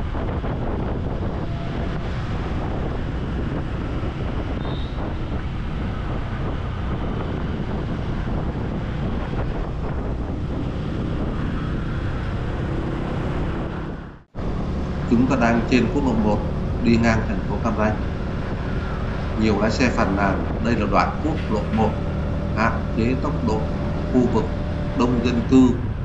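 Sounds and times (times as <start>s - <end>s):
road noise: 0.0s - 26.0s
wind rushing on microphone: 0.0s - 26.0s
motorcycle engine: 0.7s - 26.0s.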